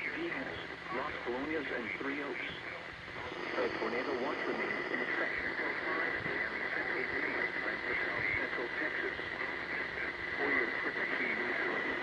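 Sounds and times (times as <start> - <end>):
constant high whine: 0.0 - 12.0
faint muffled voice: 0.0 - 12.0
radio static hiss: 0.0 - 12.0.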